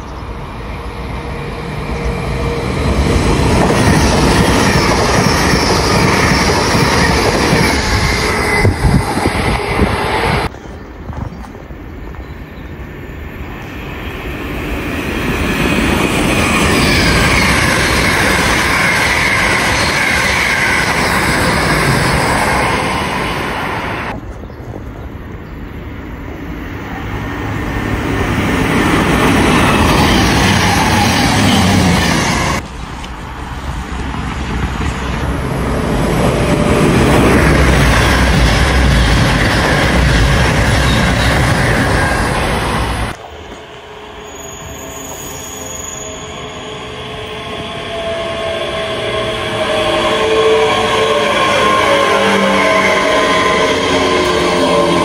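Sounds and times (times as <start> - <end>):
diesel train rumbling: 0.0 - 55.0
trains passing at speed: 0.0 - 55.0.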